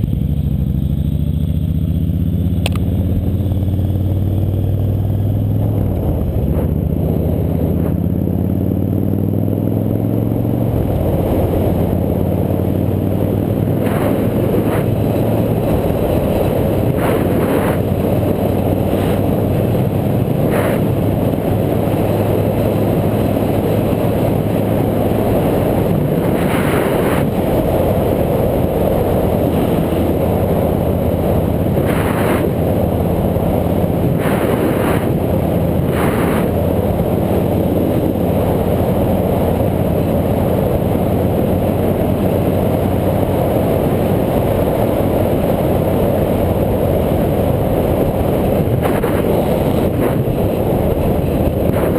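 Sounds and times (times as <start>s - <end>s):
motorcycle engine accelerating: 0.0s - 51.9s
wind rush: 3.2s - 51.9s.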